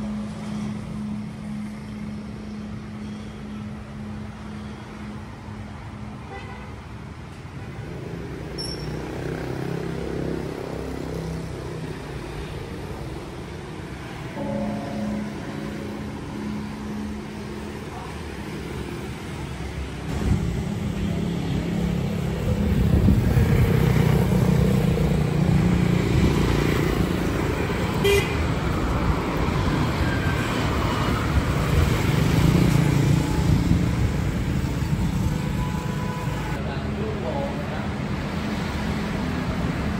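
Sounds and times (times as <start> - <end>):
vehicles passing: 0.0 - 39.9.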